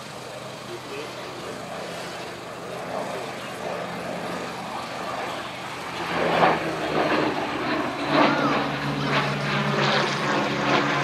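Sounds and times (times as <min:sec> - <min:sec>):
propeller plane engine flying over: 0:00.0 - 0:11.0.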